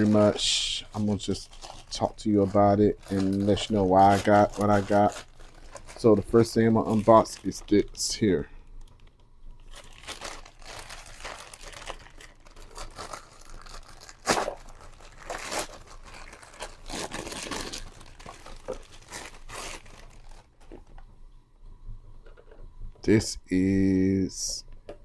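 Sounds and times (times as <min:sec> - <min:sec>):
packaging rustling and ripping: 0:00.0 - 0:21.0.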